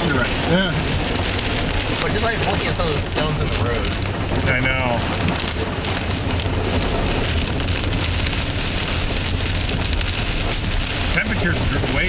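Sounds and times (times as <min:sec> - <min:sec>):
car driving rumble: 0:00.0 - 0:12.0
heavy rain on car roof: 0:00.0 - 0:12.0.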